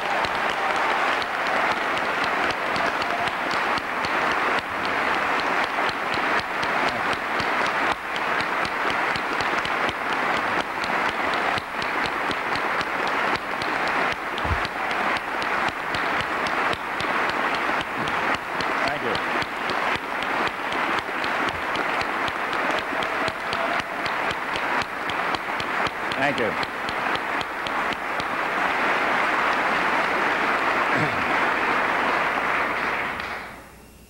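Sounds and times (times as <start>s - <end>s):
crowd applauding: 0.0s - 33.6s.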